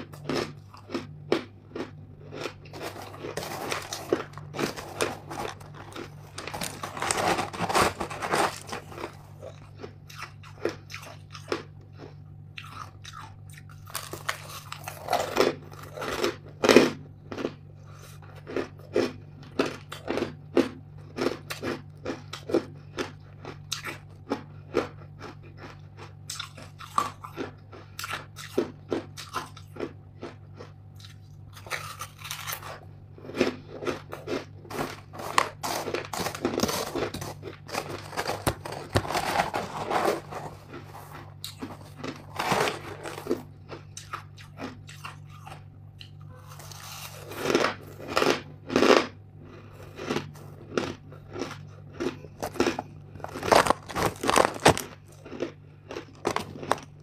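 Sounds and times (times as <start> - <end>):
crunching and chewing ice: 0.0 - 57.0
low steady hum: 0.0 - 57.0.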